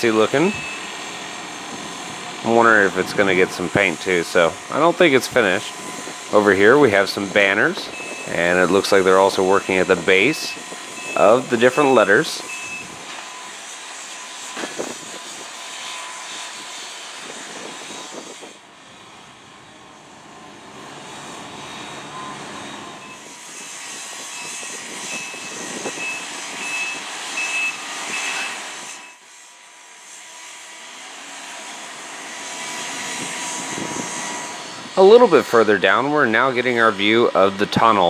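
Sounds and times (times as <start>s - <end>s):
construction area rushing noise: 0.0s - 38.0s.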